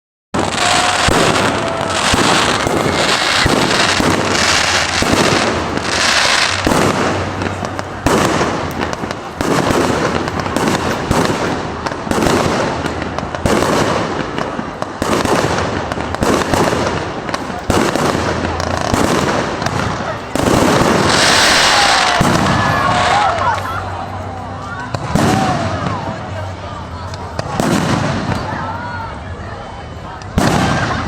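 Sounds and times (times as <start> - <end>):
firework bangs: 0.4 - 31.0
firework crackling: 0.4 - 31.0.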